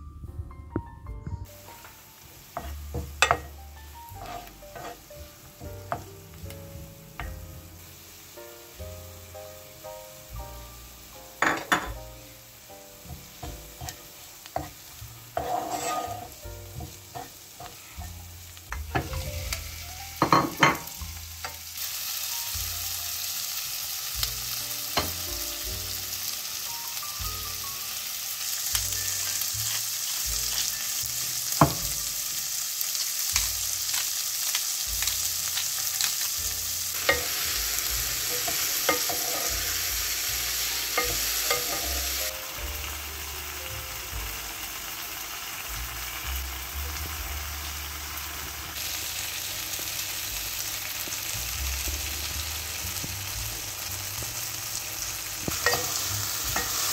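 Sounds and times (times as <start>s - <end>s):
tomatoes sizzling in oil: 1.4s - 56.9s.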